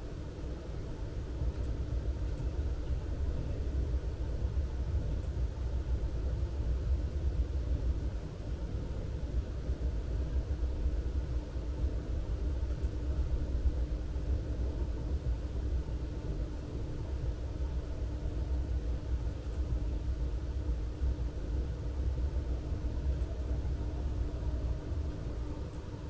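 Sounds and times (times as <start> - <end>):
faint steady hum: 0.0 - 26.0
low outdoor rumble: 0.0 - 26.0.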